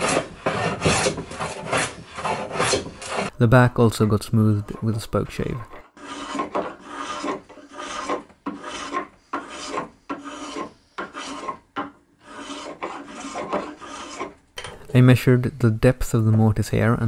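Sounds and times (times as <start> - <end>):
spokeshave scraping wood: 0.0 - 15.0.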